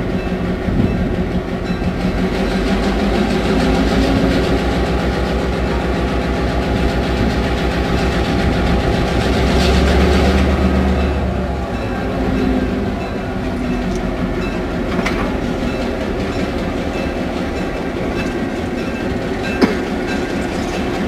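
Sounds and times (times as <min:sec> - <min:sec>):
diesel locomotive engine pulsing: 0:00.0 - 0:21.0.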